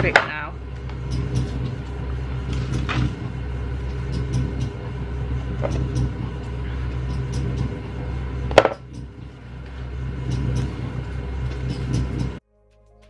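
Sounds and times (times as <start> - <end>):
steady low rumble: 0.0 - 12.4
gritty scraping and crackling: 0.1 - 12.4.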